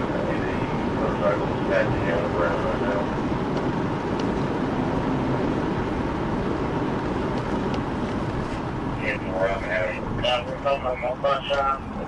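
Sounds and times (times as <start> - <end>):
car driving at speed: 0.0 - 12.0.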